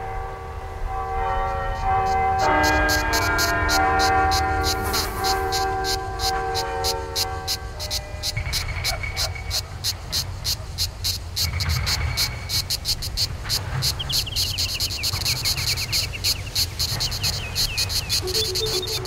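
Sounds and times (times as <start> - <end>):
crickets chirping: 2.0 - 19.0.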